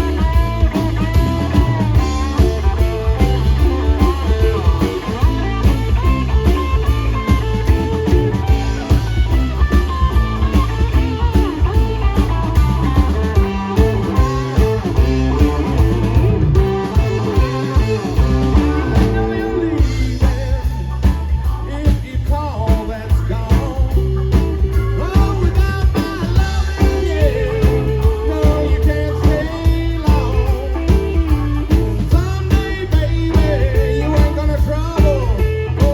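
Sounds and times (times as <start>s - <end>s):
bass and drum groove: 0.0s - 35.9s
lead electric guitar bending notes: 0.0s - 35.9s.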